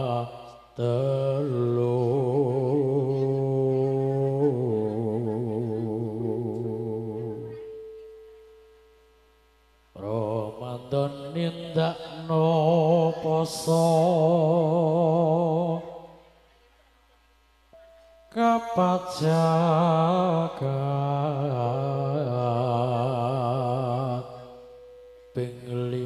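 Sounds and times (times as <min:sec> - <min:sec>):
man singing into a microphone: 0:00.0 - 0:07.9, 0:10.0 - 0:16.2, 0:18.3 - 0:24.7, 0:25.3 - 0:26.0.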